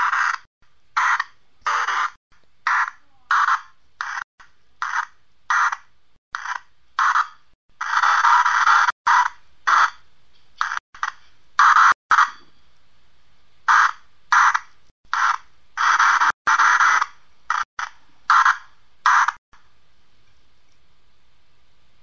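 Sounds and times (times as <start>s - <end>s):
chopped bursts of static: 0.0s - 12.4s, 13.6s - 19.8s.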